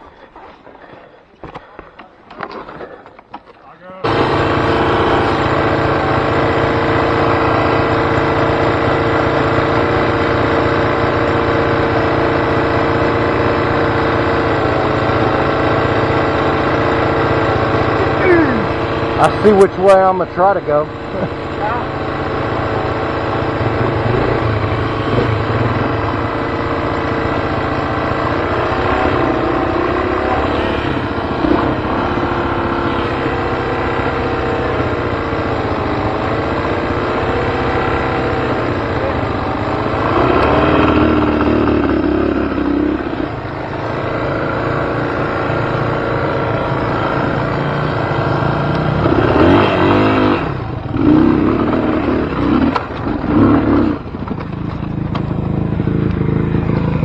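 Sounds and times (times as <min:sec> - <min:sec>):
dirt bike engine revving: 0:04.0 - 0:57.0.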